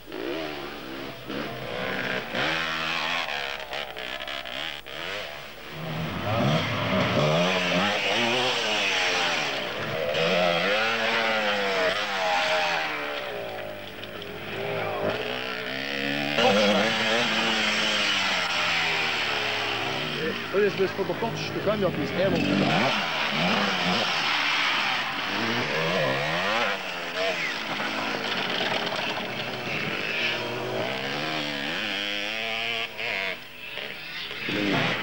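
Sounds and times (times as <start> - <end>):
motorcycle engines revving: 0.0 - 35.0.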